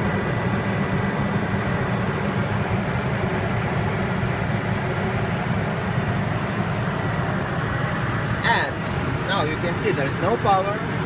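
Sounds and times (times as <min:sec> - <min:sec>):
aircraft engine idling: 0:00.0 - 0:11.0.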